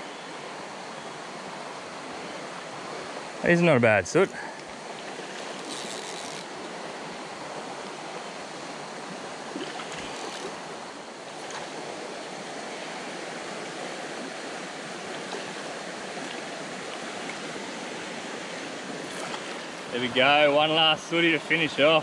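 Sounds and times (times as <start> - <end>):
creek running over stones: 2.5 - 21.8.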